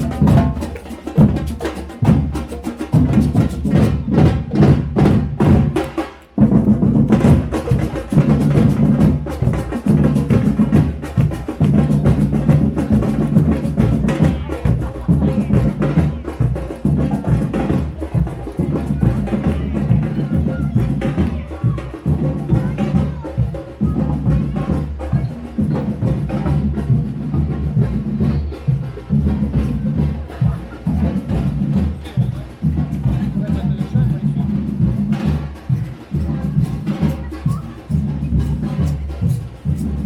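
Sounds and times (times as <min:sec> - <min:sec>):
drums: 0:00.0 - 0:40.0
wood-block strikes: 0:00.0 - 0:40.0.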